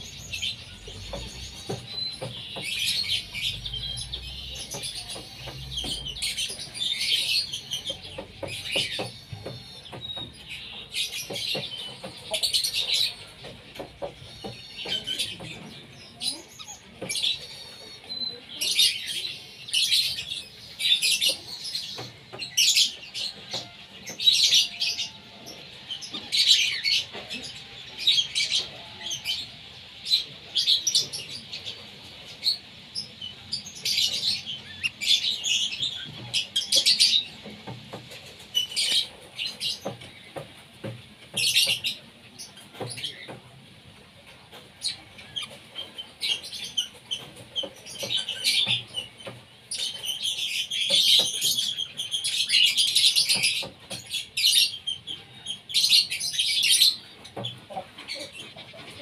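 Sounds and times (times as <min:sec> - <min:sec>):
ducks chirping and whistling: 0:00.0 - 0:40.5, 0:44.3 - 0:59.0.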